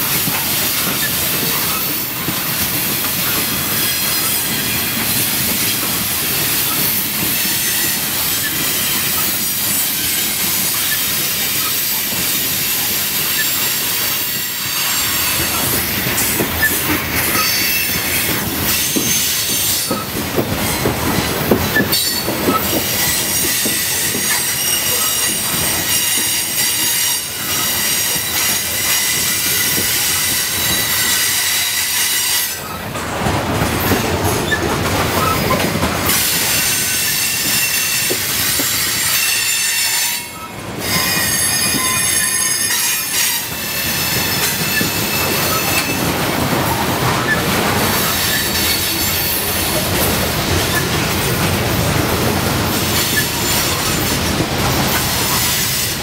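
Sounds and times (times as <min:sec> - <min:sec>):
train wheels squealing on rail: 0:00.0 - 0:33.1, 0:33.8 - 0:56.0.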